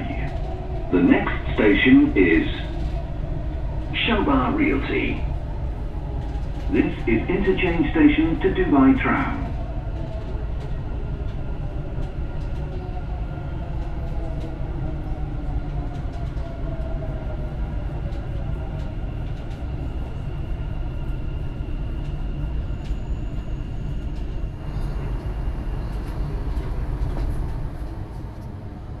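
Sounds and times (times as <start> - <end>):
electric train rumble with whine: 0.0 - 29.0.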